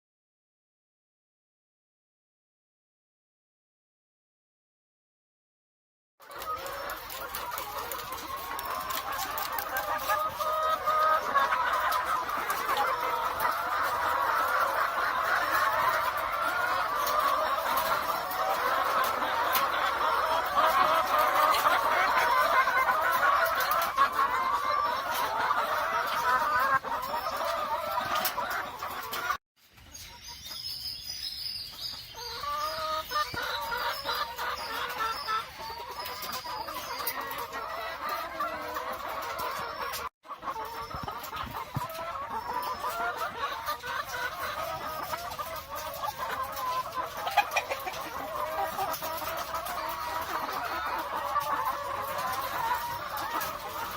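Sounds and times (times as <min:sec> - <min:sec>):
hens clucking: 0:06.2 - 0:53.9.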